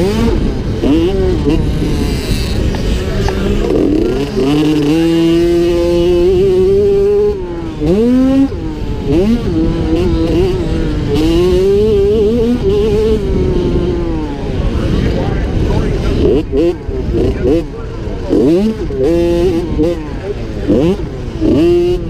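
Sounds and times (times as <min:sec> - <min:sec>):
two-stroke motorbike engine revving: 0:00.0 - 0:22.0.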